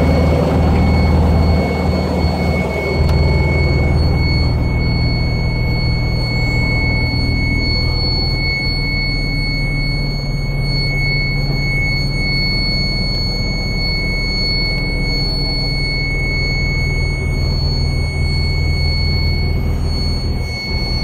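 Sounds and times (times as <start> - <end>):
diesel truck engine idling: 0.0 - 13.6, 14.2 - 20.4
high-pitched warning buzzer: 0.0 - 21.0.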